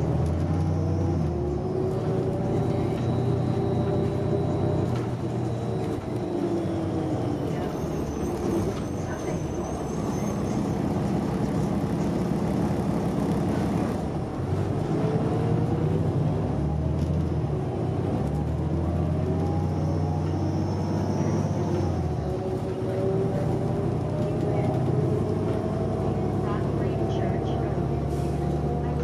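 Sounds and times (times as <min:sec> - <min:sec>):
bus transmission whine: 0:00.0 - 0:29.0.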